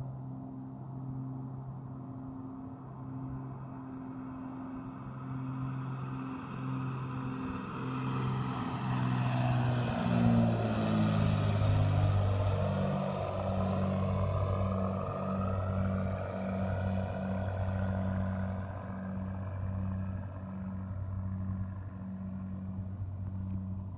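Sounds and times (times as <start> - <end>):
propeller plane flying past: 0.0 - 23.9.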